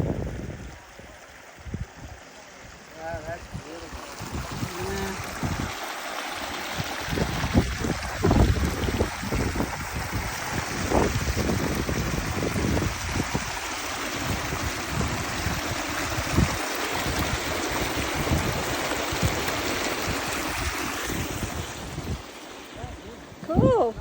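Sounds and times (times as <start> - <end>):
water rushing: 0.0 - 24.0
wind buffeting microphone: 0.0 - 24.0.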